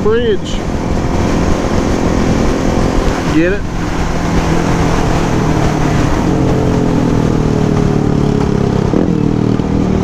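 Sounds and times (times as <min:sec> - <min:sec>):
motorcycle engine running: 0:00.0 - 0:10.0
steady rushing noise: 0:00.0 - 0:10.0.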